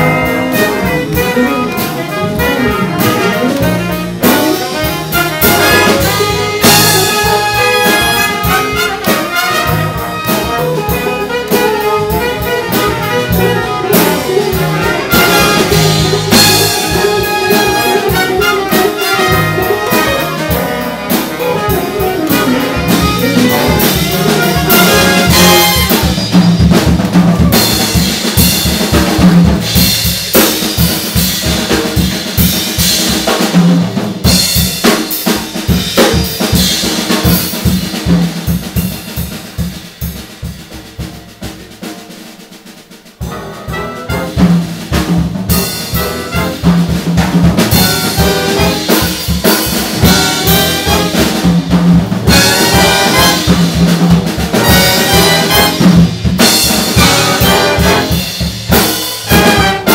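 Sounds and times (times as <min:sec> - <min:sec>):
trumpets and trombones: 0:00.0 - 0:32.1, 0:40.8 - 0:59.9
drum kit: 0:00.0 - 0:59.9.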